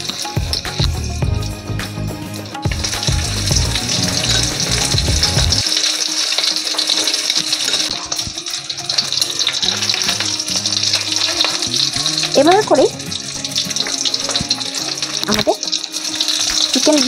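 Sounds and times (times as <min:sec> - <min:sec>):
background music: 0:00.0 - 0:17.0
deep-frying sizzle in hot oil: 0:00.0 - 0:17.0.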